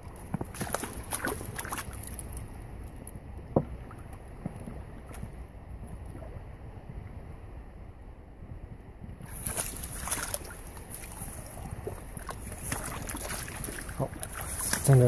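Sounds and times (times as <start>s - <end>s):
water splashing and sloshing: 0.0s - 7.2s, 9.0s - 15.0s
wind rumble on microphone: 0.0s - 15.0s.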